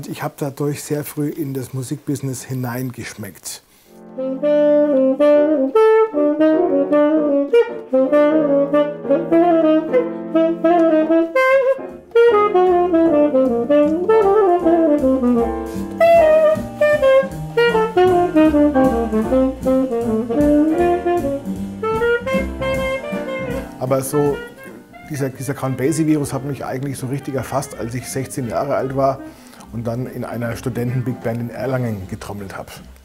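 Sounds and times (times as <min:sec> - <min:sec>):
tenor saxophone jazz melody: 0:03.8 - 0:32.2
lower notes underneath: 0:04.0 - 0:32.6.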